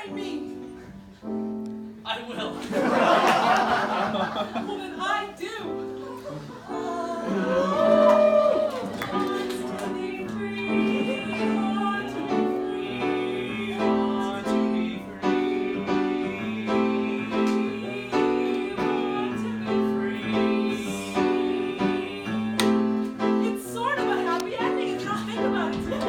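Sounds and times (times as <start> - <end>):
piano repeated chords: 0.0 - 26.0.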